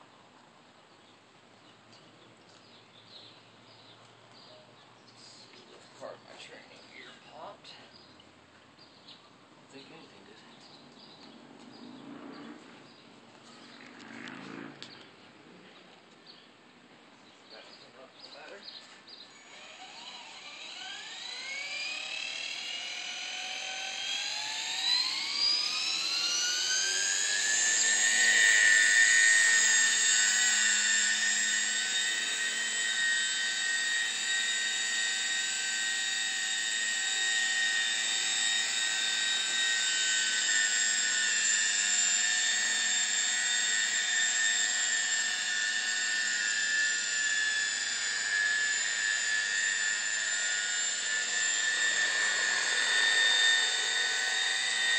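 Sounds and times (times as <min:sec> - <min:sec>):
rc helicopter motor whine: 0:05.2 - 0:54.9.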